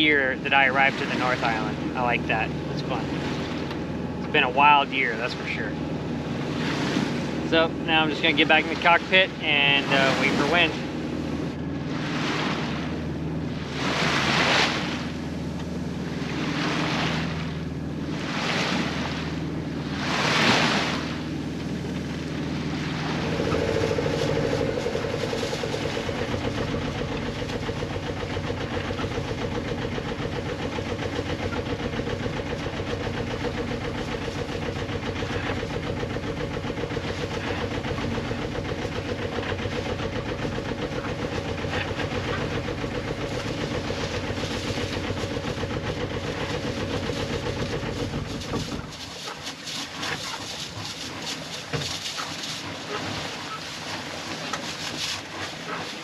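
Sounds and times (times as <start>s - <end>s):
boat engine running: 0.0s - 56.0s
water swishing along hull: 0.0s - 56.0s.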